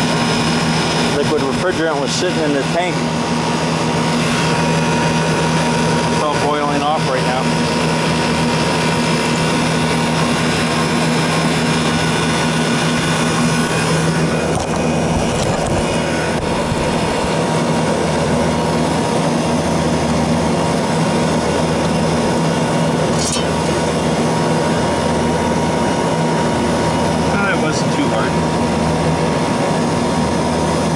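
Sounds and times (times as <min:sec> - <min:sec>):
refrigeration compressor humming: 0:00.0 - 0:30.9.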